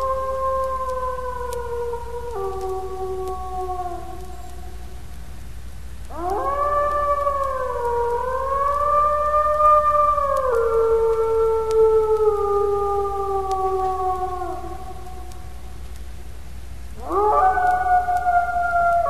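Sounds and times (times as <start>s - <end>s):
wolf howling: 0.0s - 4.8s, 6.1s - 15.6s, 17.0s - 19.0s.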